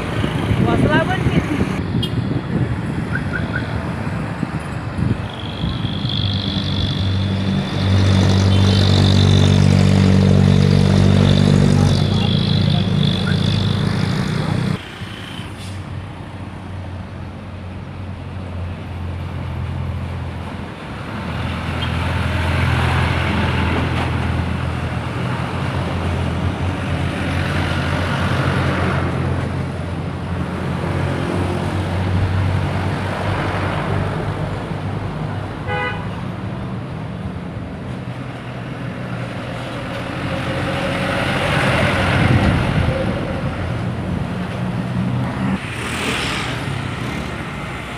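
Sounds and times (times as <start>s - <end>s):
truck engines passing: 0.0s - 47.9s.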